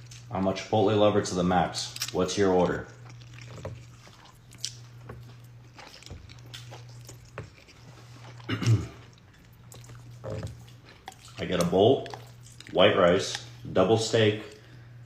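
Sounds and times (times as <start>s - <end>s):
person chewing: 0.0s - 0.4s, 1.8s - 13.6s
steady low hum: 0.0s - 15.0s.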